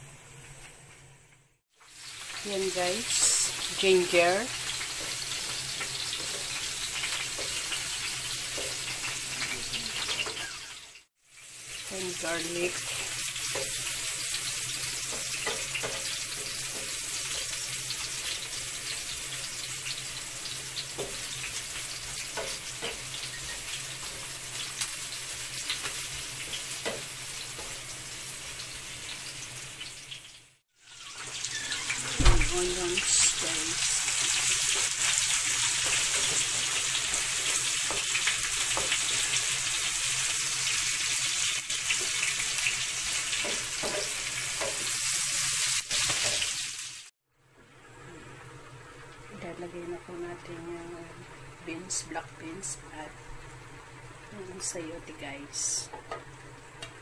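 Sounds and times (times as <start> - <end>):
garlic sizzling in hot oil: 0.0 - 47.1, 47.7 - 57.0.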